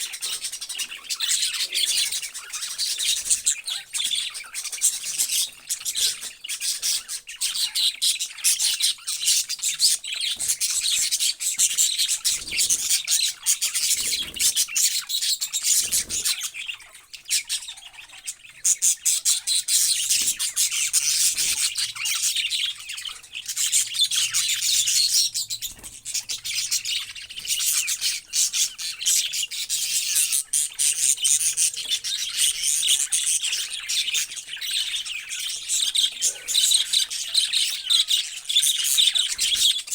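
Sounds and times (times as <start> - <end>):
parrots chirping and chattering: 0.0 - 39.9.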